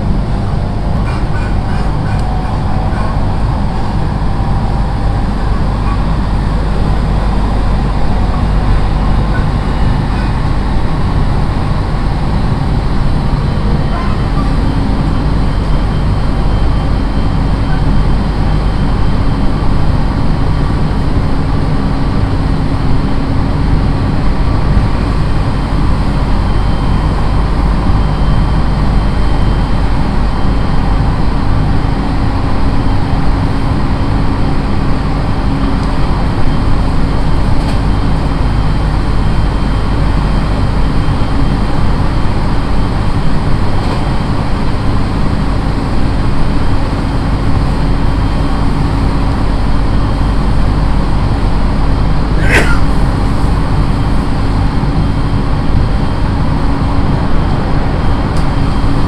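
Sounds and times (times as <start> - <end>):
steady hum: 0.0 - 59.0
train wheels rumbling on rail: 0.0 - 59.0.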